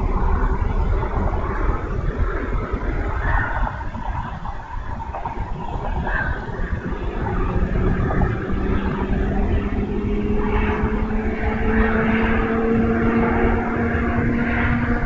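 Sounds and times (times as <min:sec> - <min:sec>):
droning engine-like hum: 0:00.0 - 0:15.0.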